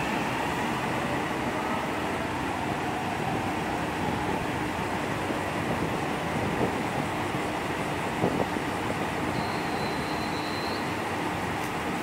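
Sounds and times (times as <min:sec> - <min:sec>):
diesel train engines running: 0:00.0 - 0:12.0.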